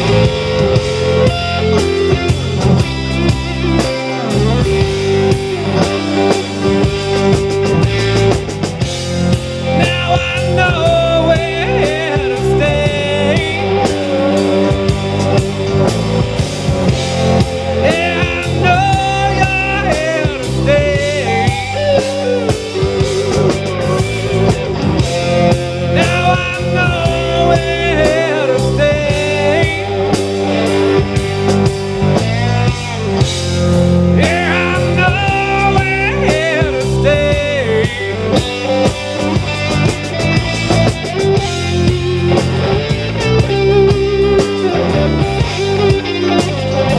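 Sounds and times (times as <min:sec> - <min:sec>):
bass and drums: 0:00.0 - 0:46.9
lead electric guitar bending notes: 0:00.0 - 0:46.9.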